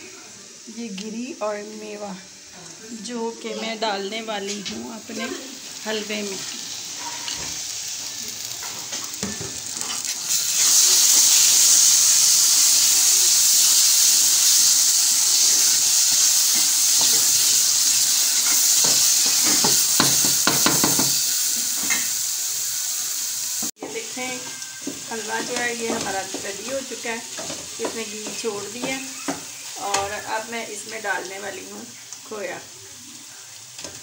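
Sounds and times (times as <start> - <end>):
food sizzling in pot: 0.0 - 34.0.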